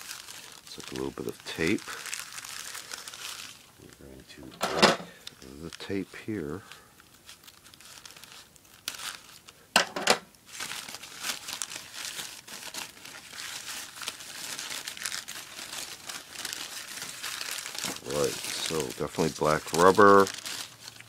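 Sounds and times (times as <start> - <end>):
paper crinkling and rustling: 0.0 - 4.5, 5.2 - 9.6, 10.4 - 21.0.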